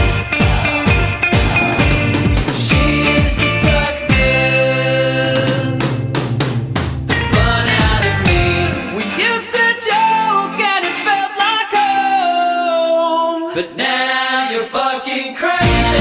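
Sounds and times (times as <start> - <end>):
pop song with sung vocals: 0.0 - 6.2, 7.1 - 16.0.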